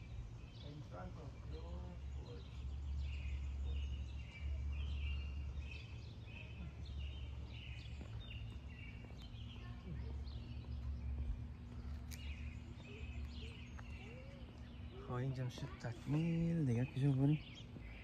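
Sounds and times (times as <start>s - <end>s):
songbirds chirping: 0.0s - 18.0s
steady low rumble: 0.0s - 18.0s.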